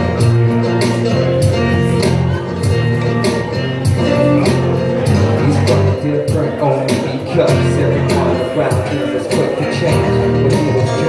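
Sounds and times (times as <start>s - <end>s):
live rap-rock band instrumental: 0.0s - 11.0s.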